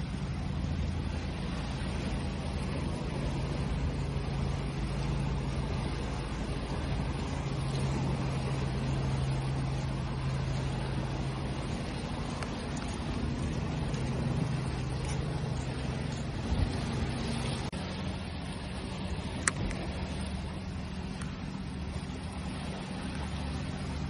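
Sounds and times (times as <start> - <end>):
low motor hum: 0.0 - 24.0
sea waves: 0.0 - 24.0.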